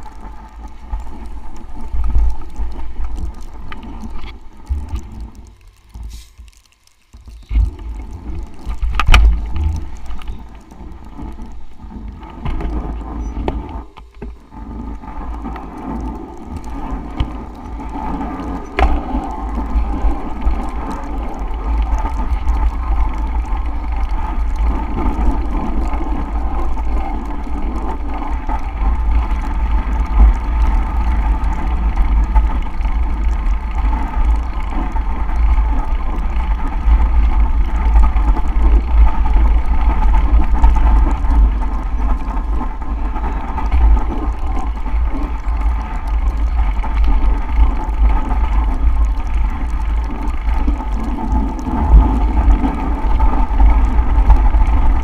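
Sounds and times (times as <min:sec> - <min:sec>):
wind buffeting microphone: 0:07.3 - 0:55.0.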